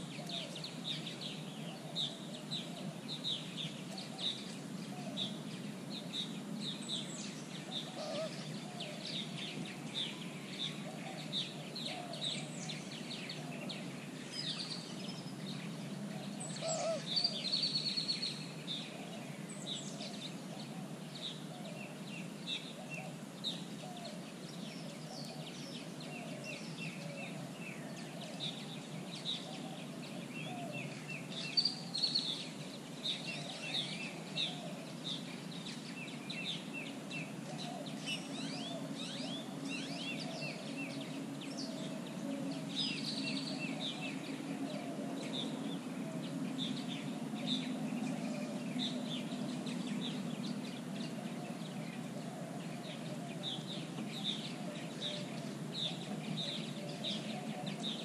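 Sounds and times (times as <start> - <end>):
birds chirping and whistling: 0.0 - 58.0
lower bird calls: 0.0 - 58.0.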